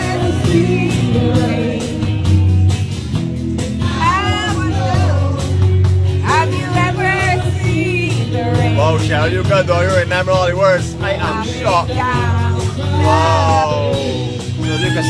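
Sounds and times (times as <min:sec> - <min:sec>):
person singing: 0:00.0 - 0:02.5, 0:03.8 - 0:09.7, 0:11.1 - 0:15.0
bass line: 0:00.0 - 0:15.0
drum beat: 0:00.0 - 0:15.0
live band music: 0:00.0 - 0:15.0.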